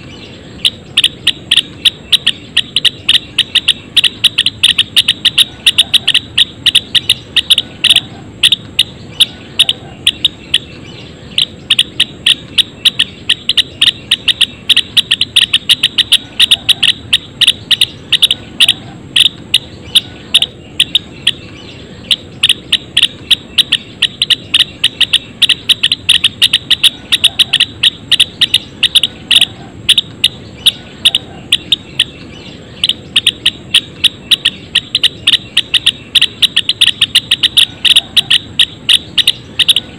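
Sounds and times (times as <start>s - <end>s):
flock of sparrows chirping: 0.0s - 39.9s.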